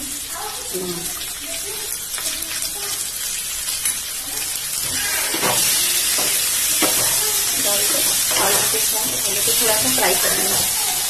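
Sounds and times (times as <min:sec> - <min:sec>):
potatoes sizzling in oil: 0:00.0 - 0:11.0
spatula stirring in pan: 0:01.4 - 0:11.0.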